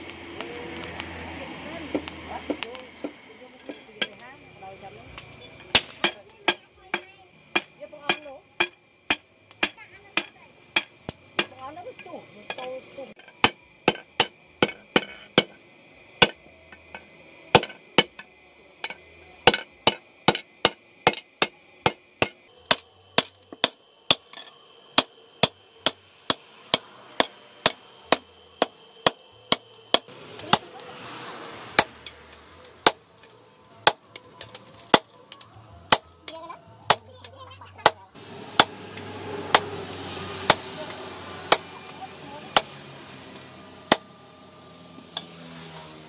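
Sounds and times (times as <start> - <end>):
hammer striking hot steel on anvil: 0.4 - 15.6, 16.2 - 44.2, 45.0 - 45.4.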